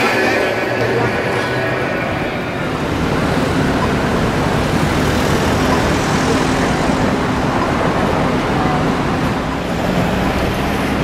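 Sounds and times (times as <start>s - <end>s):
rumble of road traffic: 0.0s - 11.0s.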